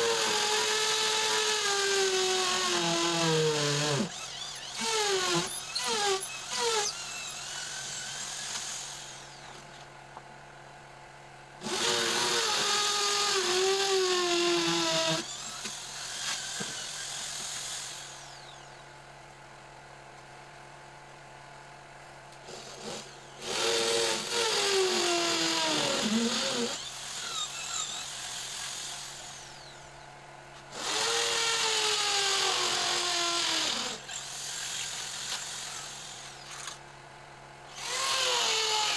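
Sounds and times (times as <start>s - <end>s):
power tool whining: 0.0s - 9.6s, 11.6s - 18.8s, 22.5s - 30.0s, 30.7s - 36.8s, 37.7s - 38.9s.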